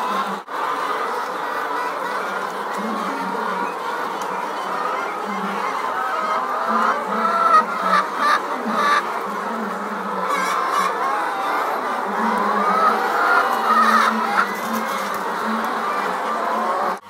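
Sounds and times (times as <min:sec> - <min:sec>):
flock of hens clucking: 0:00.0 - 0:17.0.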